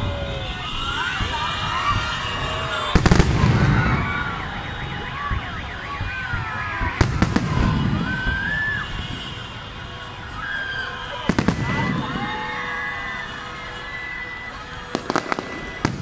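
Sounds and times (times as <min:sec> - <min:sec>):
fireworks bangs: 0:00.0 - 0:16.0
fireworks whistles: 0:00.0 - 0:16.0.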